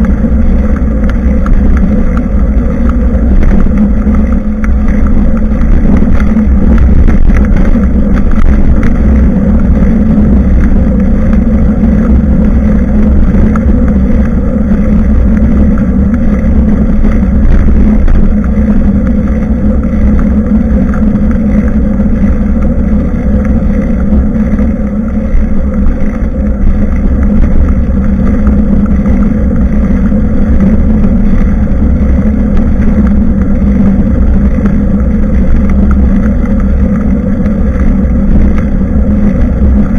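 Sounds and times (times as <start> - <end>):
constant drone: 0.0 - 39.9
wind rumble on microphone: 0.0 - 39.9.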